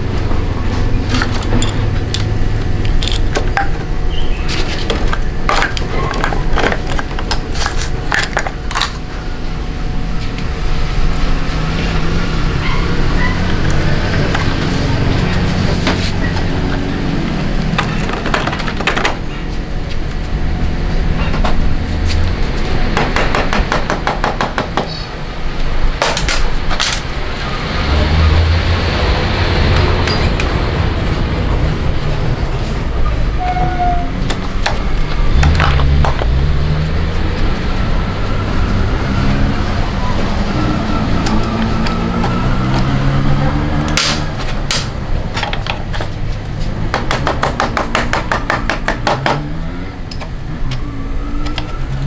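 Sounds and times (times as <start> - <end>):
steady low hum: 0.0 - 42.1.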